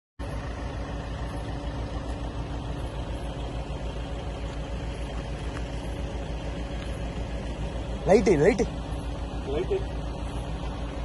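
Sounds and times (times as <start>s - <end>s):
engine idling: 0.2s - 11.0s.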